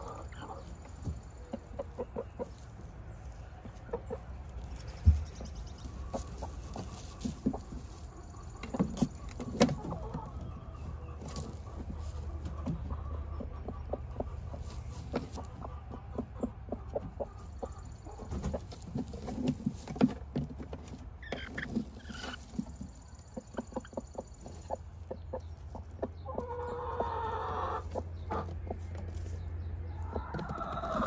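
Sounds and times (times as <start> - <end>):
hen clucking: 0.0 - 31.0.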